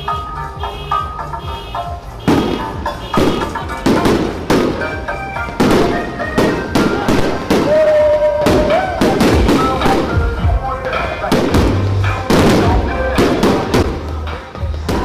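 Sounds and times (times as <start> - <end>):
firecrackers banging: 0.0 - 15.0
music playing: 0.0 - 15.0.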